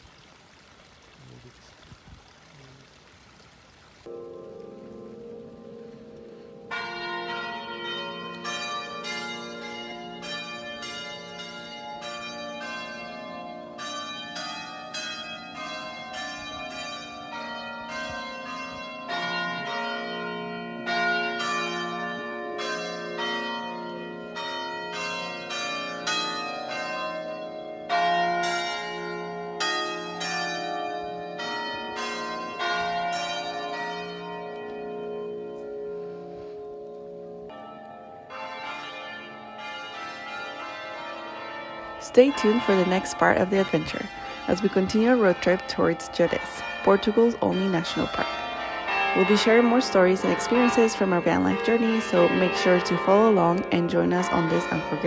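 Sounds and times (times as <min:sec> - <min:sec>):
bells ringing: 0:04.0 - 0:55.0.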